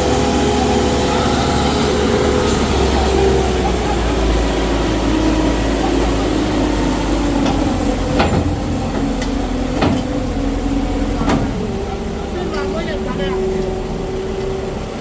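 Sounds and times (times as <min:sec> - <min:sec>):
machine engine running: 0:00.0 - 0:15.0.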